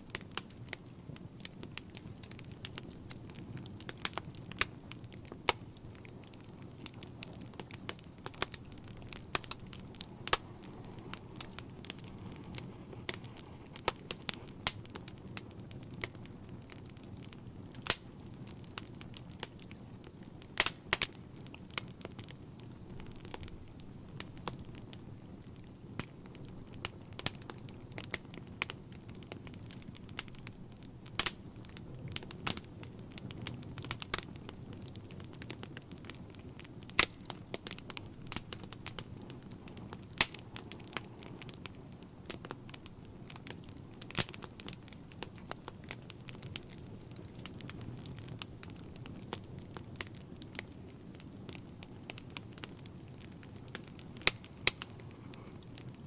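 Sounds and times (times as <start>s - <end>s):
fire rumbling: 0.0s - 56.0s
logs crackling and popping: 0.0s - 56.0s.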